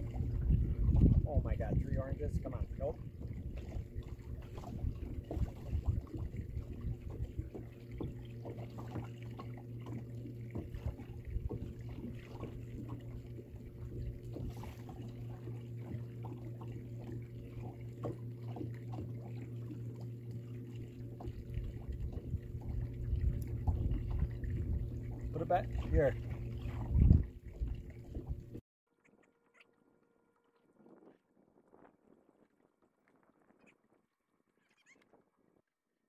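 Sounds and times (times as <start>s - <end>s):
boat motor humming: 0.0s - 35.0s
water lapping against boat hull: 0.0s - 35.6s.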